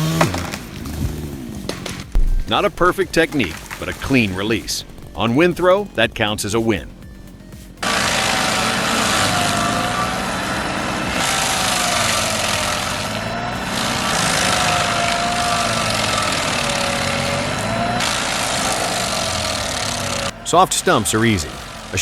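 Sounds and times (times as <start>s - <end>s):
stump grinder engine: 0.0s - 22.0s
wheel grinding wood: 0.0s - 22.0s.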